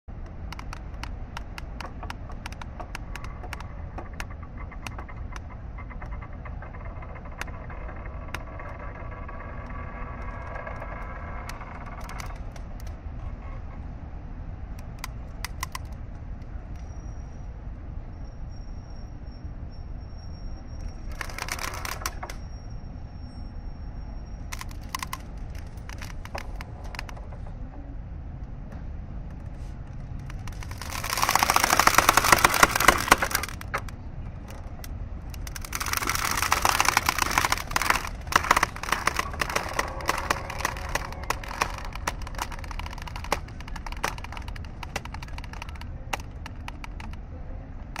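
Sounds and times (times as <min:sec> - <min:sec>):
mooring rope creaking: 0:00.0 - 0:13.9, 0:14.8 - 0:16.6, 0:20.8 - 0:22.4, 0:24.4 - 0:27.8, 0:29.4 - 0:48.0.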